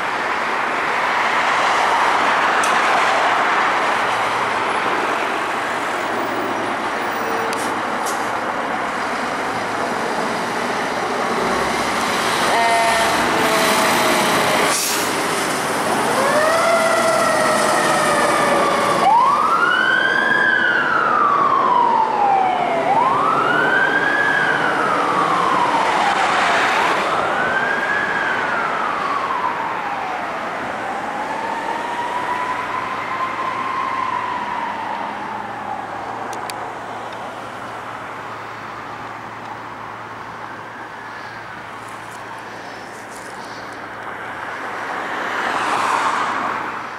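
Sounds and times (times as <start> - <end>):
emergency sirens wailing: 0.0 - 46.9.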